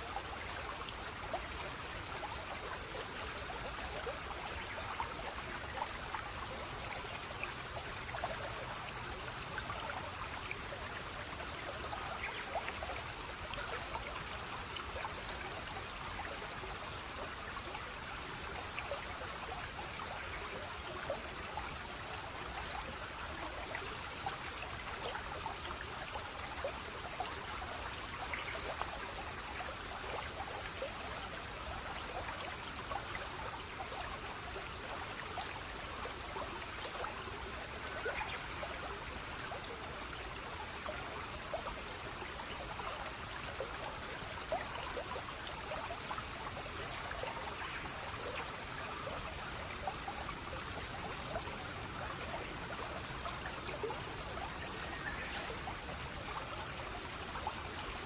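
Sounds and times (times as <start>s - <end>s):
stream water babbling: 0.0s - 58.0s.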